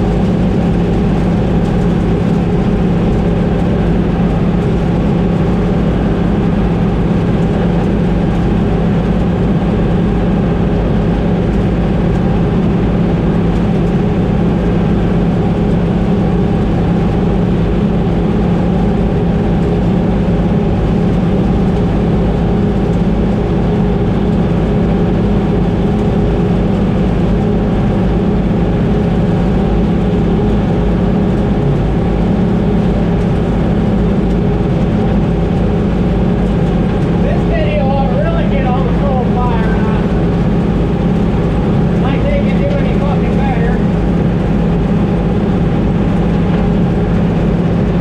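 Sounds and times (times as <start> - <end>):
combine harvester droning: 0.0 - 48.0.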